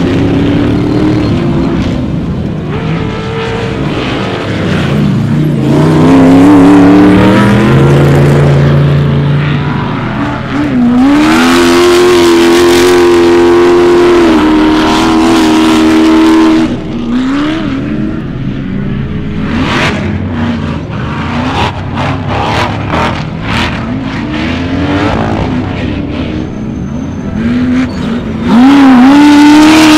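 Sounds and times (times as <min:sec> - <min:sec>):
race car engines revving: 0:00.0 - 0:29.9.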